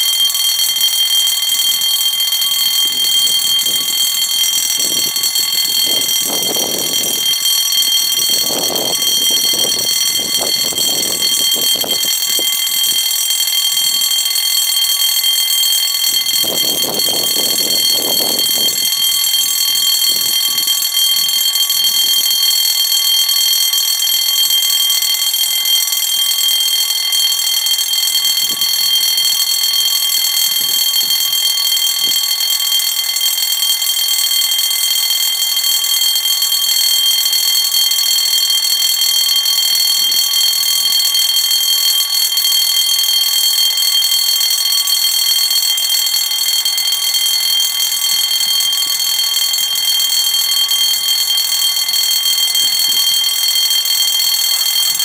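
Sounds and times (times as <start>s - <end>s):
fire alarm bell ringing: 0.0s - 55.0s.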